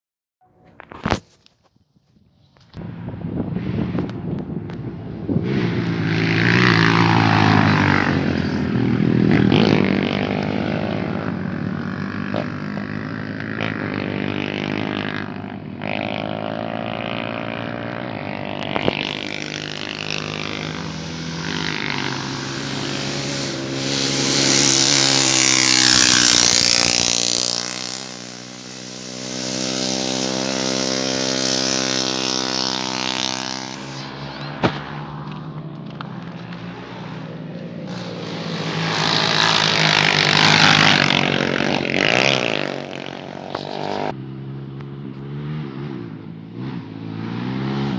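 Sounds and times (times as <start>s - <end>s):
motorcycle engines revving: 2.7s - 47.9s.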